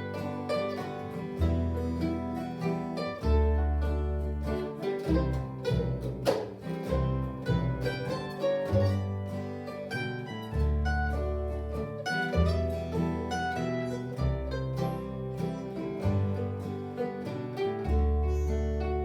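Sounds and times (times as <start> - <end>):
acoustic guitar rhythm: 0.0 - 19.0
bass notes: 0.0 - 19.0
mandolin melody: 0.0 - 19.0.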